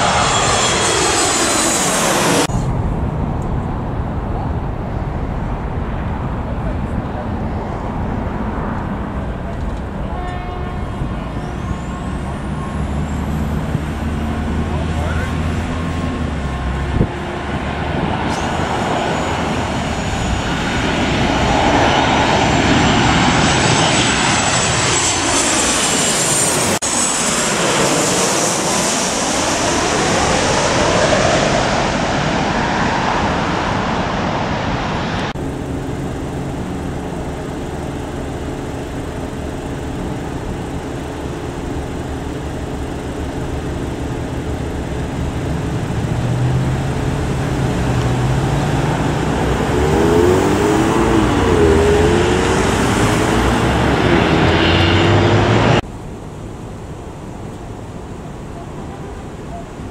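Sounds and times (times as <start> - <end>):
low jet engine hum: 0.0 - 13.0, 13.6 - 59.9
jet engine whine overhead: 0.0 - 59.9.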